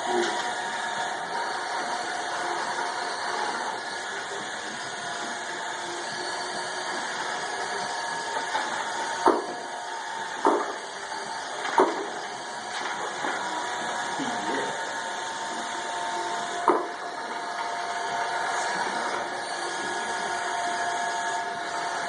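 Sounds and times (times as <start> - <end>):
robot fans and motors whirring: 0.0 - 22.0.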